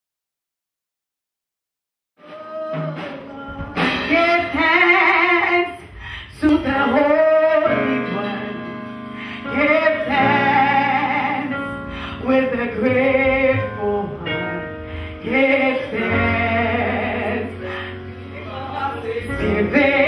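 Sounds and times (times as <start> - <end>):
woman singing into microphone: 2.2 - 8.8, 9.4 - 20.0.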